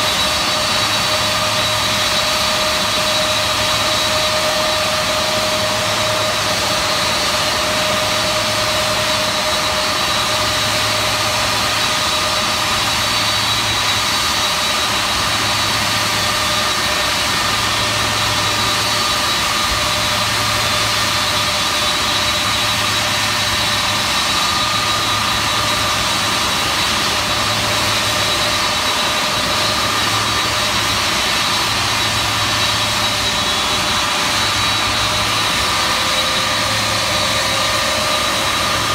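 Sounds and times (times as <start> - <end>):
high engine whine: 0.0 - 38.9
jet engines roaring: 0.0 - 38.9.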